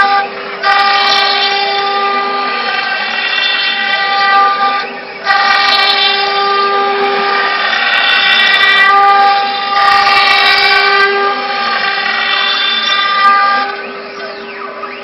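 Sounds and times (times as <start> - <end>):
router spindle high-pitched whine: 0.0 - 15.0.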